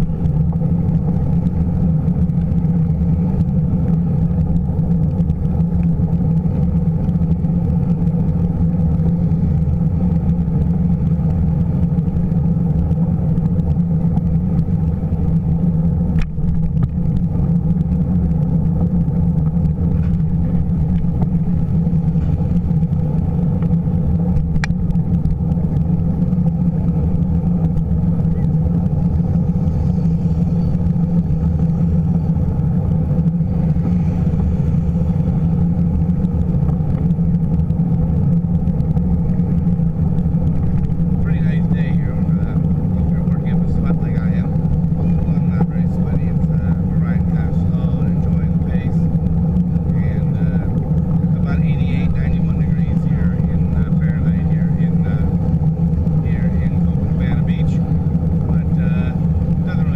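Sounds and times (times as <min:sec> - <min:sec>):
wind and road vibration rumble: 0:00.0 - 0:59.9.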